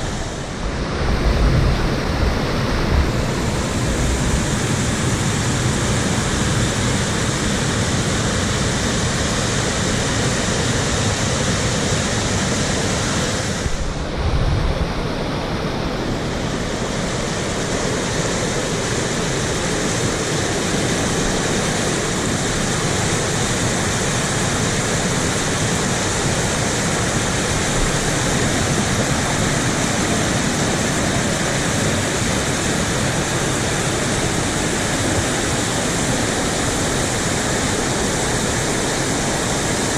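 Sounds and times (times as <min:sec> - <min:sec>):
river water rushing over rapids: 0:00.0 - 0:39.9.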